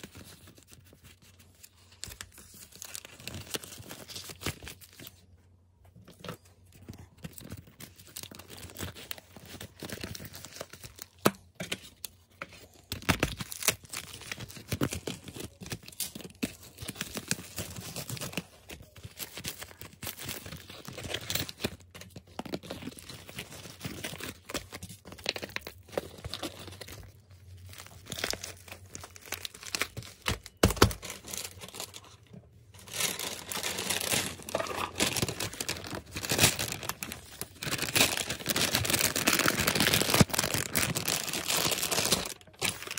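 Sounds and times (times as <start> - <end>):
plastic packaging crinkling: 0.0 - 42.9.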